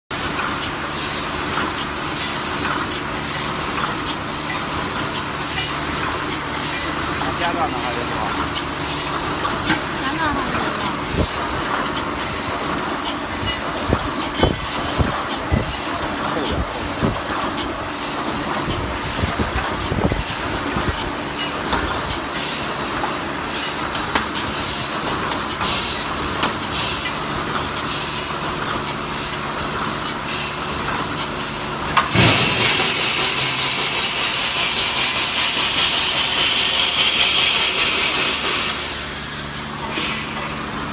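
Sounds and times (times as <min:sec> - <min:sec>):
machine clattering: 0:00.1 - 0:39.0.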